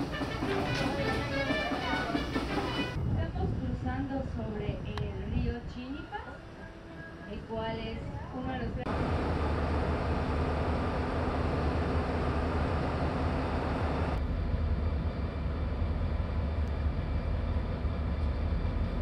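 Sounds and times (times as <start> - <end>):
diesel locomotive engine rumbling: 0.0 - 5.6, 8.7 - 19.0.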